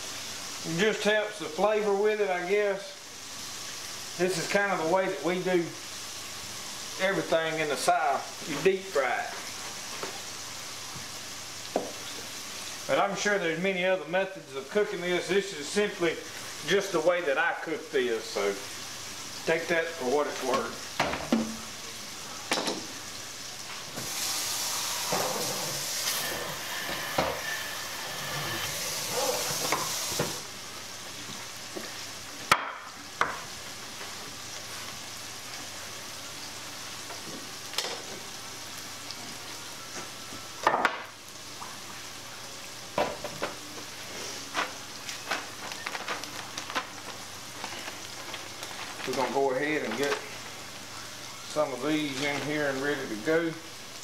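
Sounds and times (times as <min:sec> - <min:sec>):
oil sizzling in skillet: 0:00.0 - 0:54.0.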